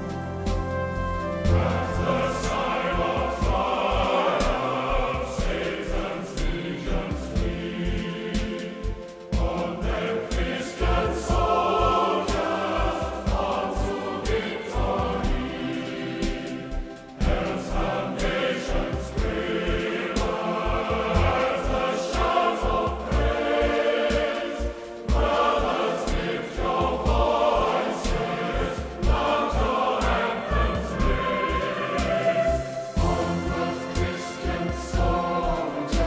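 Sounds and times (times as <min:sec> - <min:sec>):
choir singing: 0:00.0 - 0:36.0.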